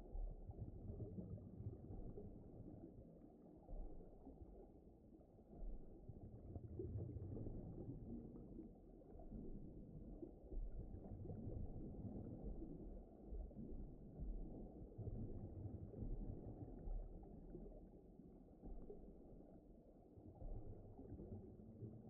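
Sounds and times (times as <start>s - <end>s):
deep underwater rumbling ambience: 0.0s - 22.0s.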